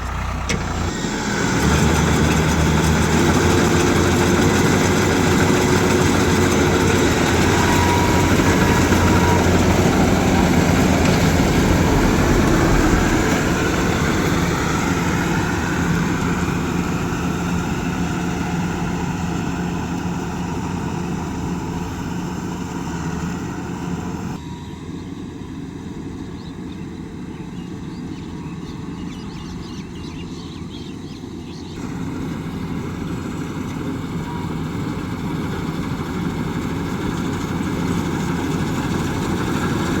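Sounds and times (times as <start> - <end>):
farm machine engine running: 0.0 - 40.0.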